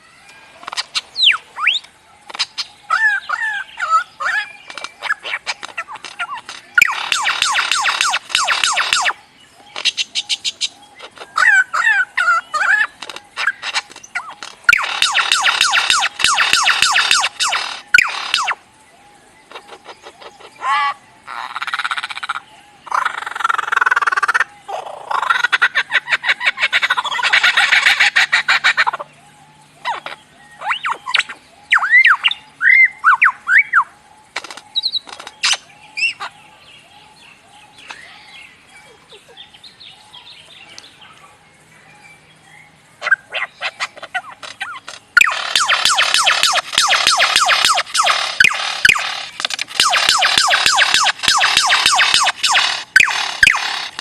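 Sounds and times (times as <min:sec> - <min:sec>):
lyrebird singing mimicked calls: 0:00.1 - 0:18.6, 0:19.4 - 0:41.2, 0:43.0 - 0:54.0.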